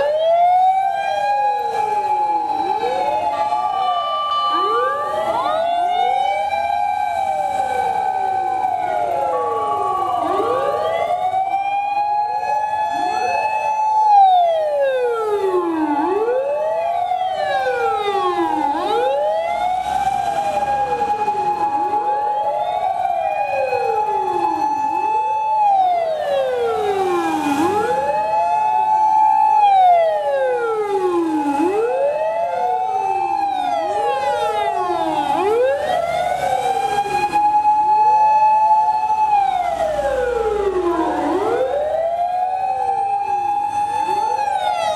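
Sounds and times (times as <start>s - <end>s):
fire engine sirens wailing: 0.0s - 44.9s.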